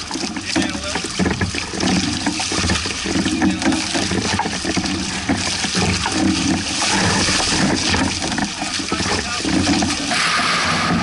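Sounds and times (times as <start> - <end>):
water splashing along hulls: 0.0 - 11.0.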